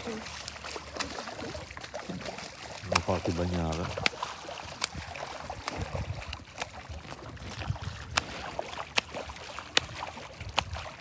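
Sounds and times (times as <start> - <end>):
fish splashing in water: 0.0 - 11.0.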